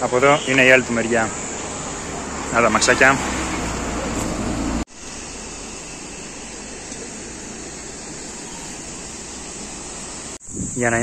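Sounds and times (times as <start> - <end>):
river water rushing: 1.3 - 10.4.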